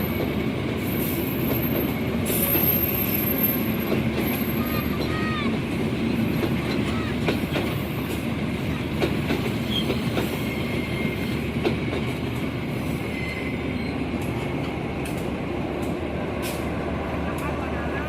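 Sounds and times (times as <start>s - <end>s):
train carriages rumbling past: 0.0s - 18.0s.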